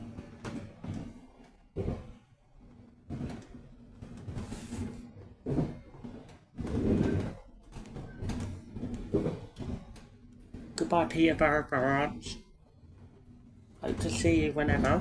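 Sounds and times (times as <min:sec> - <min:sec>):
train carriage knocks and rattles: 0:00.0 - 0:02.2, 0:03.1 - 0:12.4, 0:13.8 - 0:15.0.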